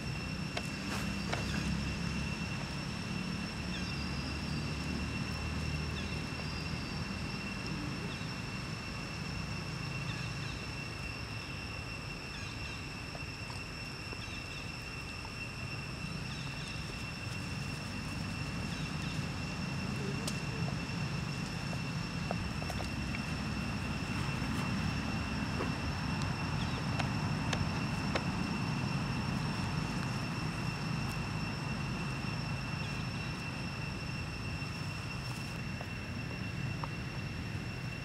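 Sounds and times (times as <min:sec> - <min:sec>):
high-pitched whine: 0:00.0 - 0:38.0
steady low rumble: 0:00.0 - 0:38.0
faint chirps: 0:03.5 - 0:37.2.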